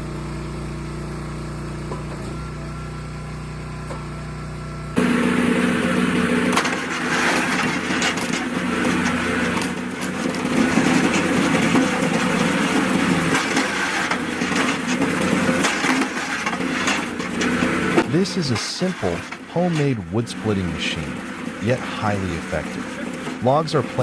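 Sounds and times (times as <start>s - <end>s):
wood splitting machine running: 0.0s - 24.0s.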